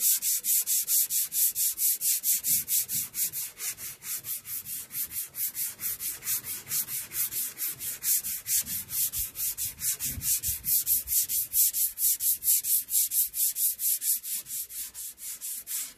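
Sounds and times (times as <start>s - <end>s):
rhythmic rasping of sanding: 0.0s - 15.9s.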